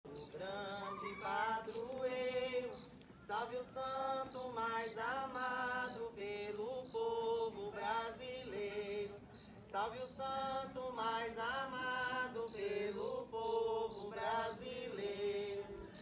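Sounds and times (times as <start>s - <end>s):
voices singing a slow hymn: 0.1s - 16.0s.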